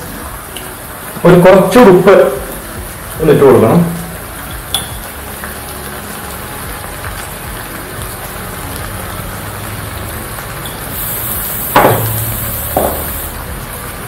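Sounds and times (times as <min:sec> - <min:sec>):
curry sizzling in pot: 0:00.0 - 0:14.0.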